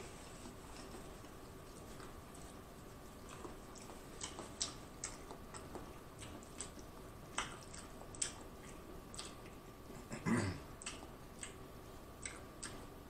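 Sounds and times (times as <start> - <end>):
person chewing with wet smacks: 0.3 - 13.0
fingers picking through saucy food: 0.4 - 9.8, 10.8 - 13.0.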